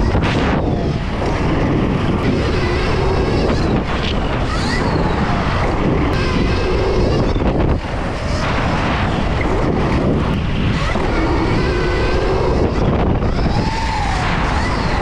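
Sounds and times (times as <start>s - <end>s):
wind rushing on microphone: 0.0s - 15.0s.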